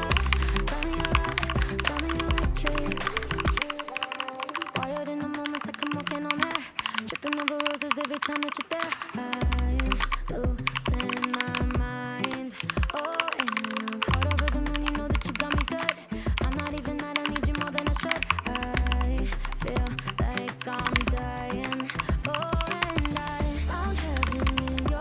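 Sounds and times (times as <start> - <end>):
fast mechanical keyboard typing: 0.0 - 23.3
background pop music: 0.0 - 25.0.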